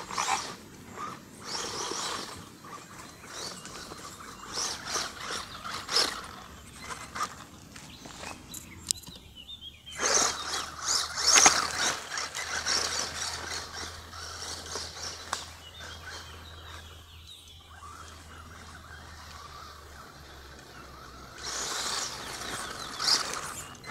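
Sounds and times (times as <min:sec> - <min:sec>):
toy truck tyres on gravel: 0:00.0 - 0:23.9.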